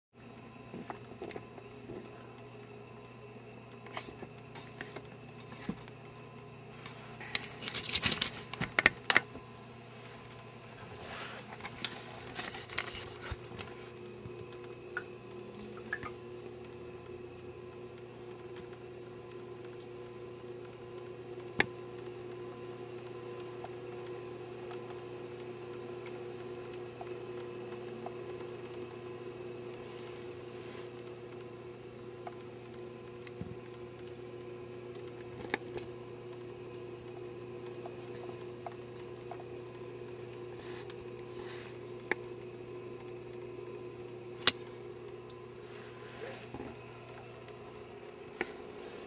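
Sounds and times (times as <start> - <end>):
steady low hum: 0.2 - 49.0.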